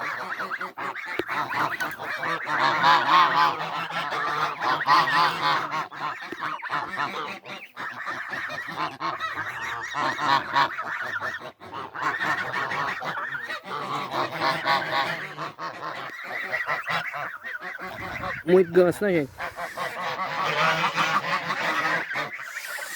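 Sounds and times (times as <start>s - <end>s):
geese honking: 0.0s - 22.9s.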